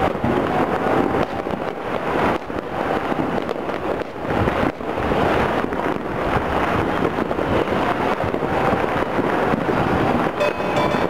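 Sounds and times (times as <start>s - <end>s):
distant firecrackers and fireworks: 0.0s - 11.0s.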